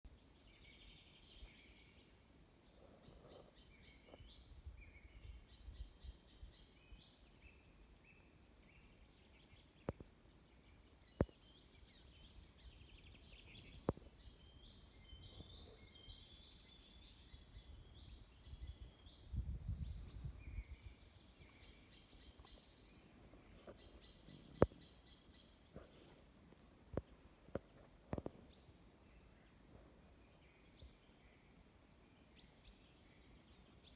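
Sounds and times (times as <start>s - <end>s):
faint songbirds chirping: 0.1s - 33.9s.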